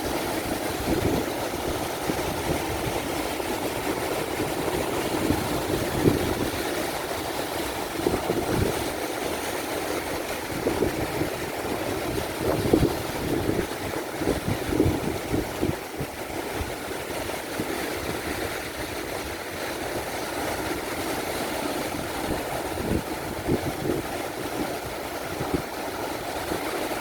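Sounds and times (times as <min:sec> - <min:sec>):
wind buffeting microphone: 0:00.0 - 0:09.1, 0:10.1 - 0:20.0, 0:21.8 - 0:27.0
ocean waves breaking: 0:00.0 - 0:27.0.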